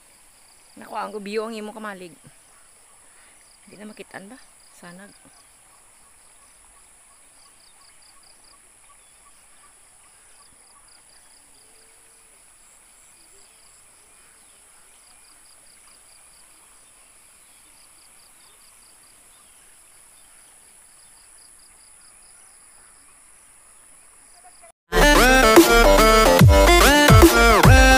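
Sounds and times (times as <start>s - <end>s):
insects droning: 0.0s - 24.7s
insect chirps: 0.0s - 24.8s.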